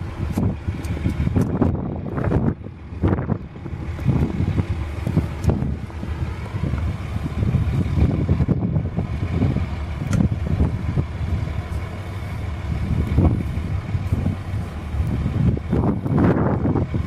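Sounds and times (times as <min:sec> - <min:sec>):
truck engine running: 0:00.0 - 0:17.0
wind gusting on microphone: 0:00.0 - 0:17.0.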